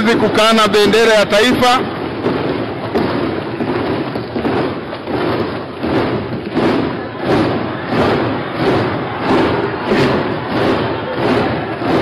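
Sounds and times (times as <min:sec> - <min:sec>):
rhythmic thumps: 0:00.0 - 0:12.0
crowd cheering and applauding: 0:00.1 - 0:12.0.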